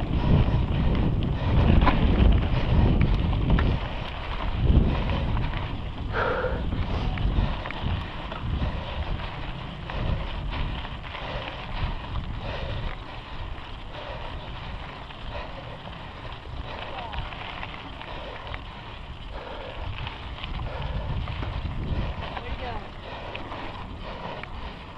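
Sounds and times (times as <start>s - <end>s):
bike tyres rumbling on trail: 0.0s - 24.9s
wind buffeting microphone: 0.0s - 24.9s.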